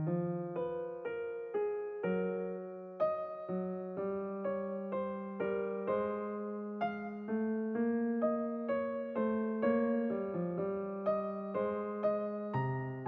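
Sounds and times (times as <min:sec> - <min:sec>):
gentle electric piano music: 0:00.0 - 0:13.0.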